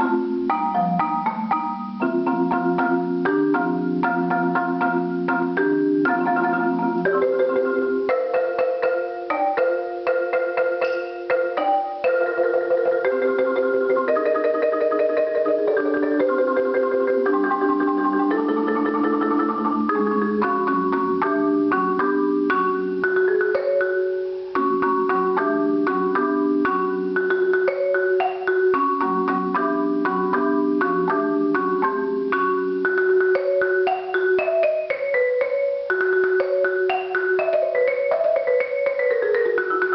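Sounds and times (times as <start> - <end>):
marimba played with mallets: 0.0 - 39.9.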